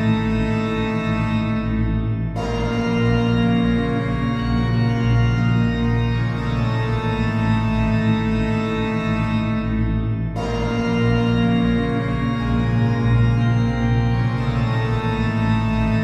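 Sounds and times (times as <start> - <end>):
slow organ chords: 0.0 - 16.0.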